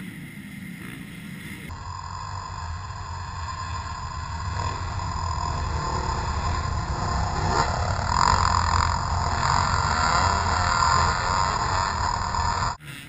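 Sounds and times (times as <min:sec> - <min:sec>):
dirt bike engines droning: 0:00.0 - 0:13.0.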